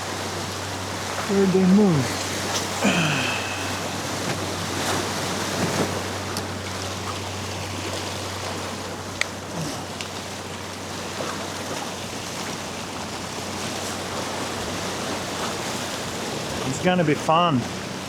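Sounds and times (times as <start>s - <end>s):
ocean surf washing: 0.0s - 18.0s.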